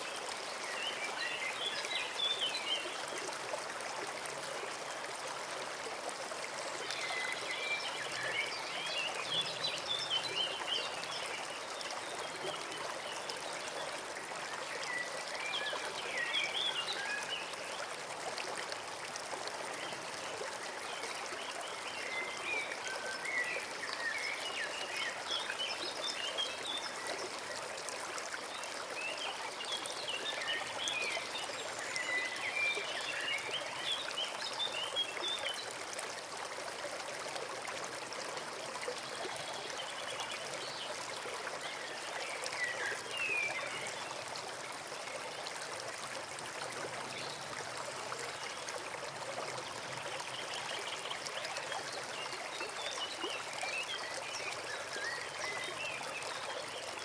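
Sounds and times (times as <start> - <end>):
brook running over stones: 0.0 - 57.0.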